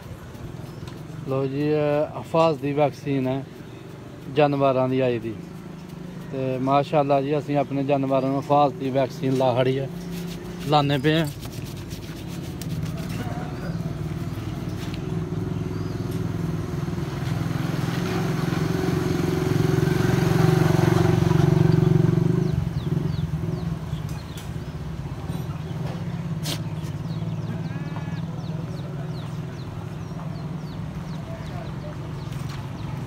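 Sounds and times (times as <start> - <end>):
engine running low hum: 3.6 - 33.0.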